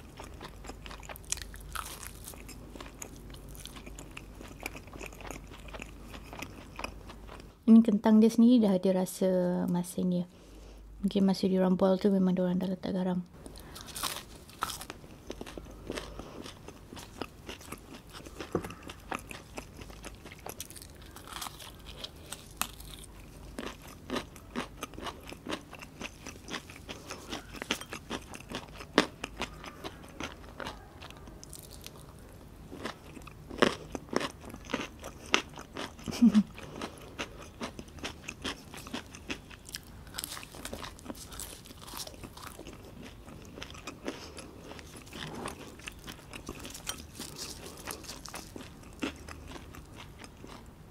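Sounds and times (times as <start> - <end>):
person chewing crispy food: 0.0 - 7.6, 13.4 - 50.9.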